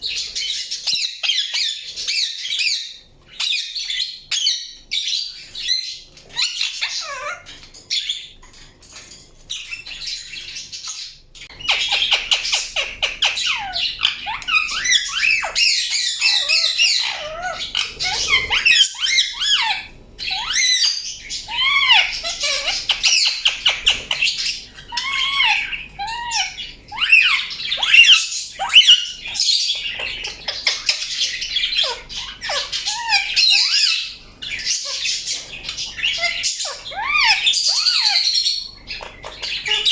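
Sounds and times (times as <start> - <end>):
parakeet chirping and squawking: 0.0 - 39.9.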